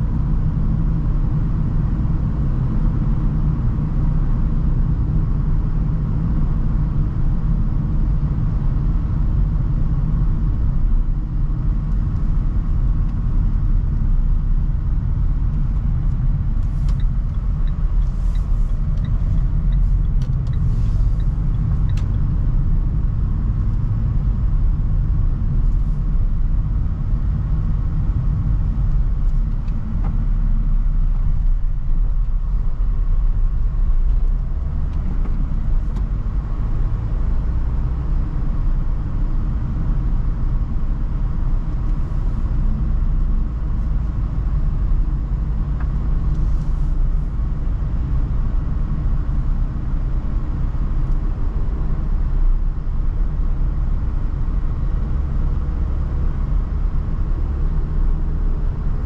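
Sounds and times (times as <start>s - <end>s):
van engine and road rumble: 0.0s - 59.0s.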